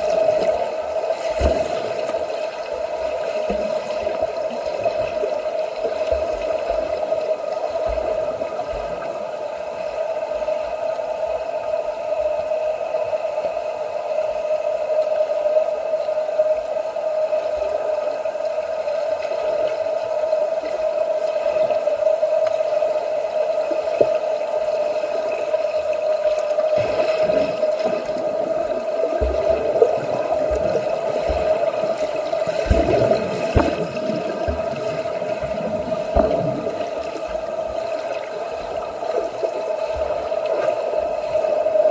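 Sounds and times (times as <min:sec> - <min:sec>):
pool water splashing: 0:00.0 - 0:11.4, 0:18.8 - 0:41.9
steady hum: 0:00.0 - 0:41.9.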